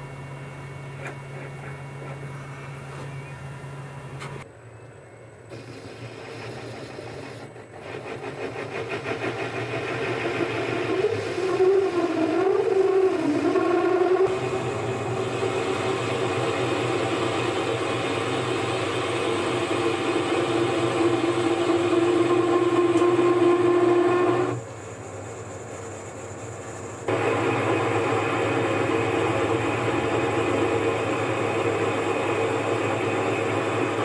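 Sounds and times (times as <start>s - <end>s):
lathe hum and whine: 0.0s - 34.0s.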